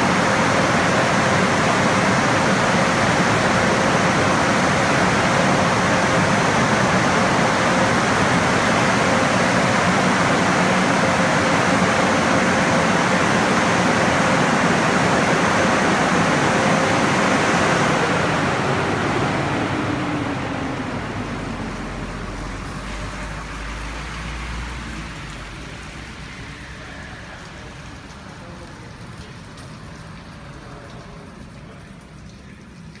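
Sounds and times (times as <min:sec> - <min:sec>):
truck engine rumble: 0:00.0 - 0:31.8
truck wash equipment rushing: 0:00.0 - 0:33.0.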